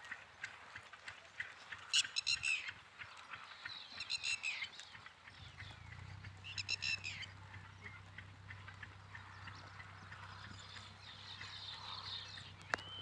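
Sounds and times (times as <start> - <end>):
small bird chirps and ticks: 0.0 - 13.0.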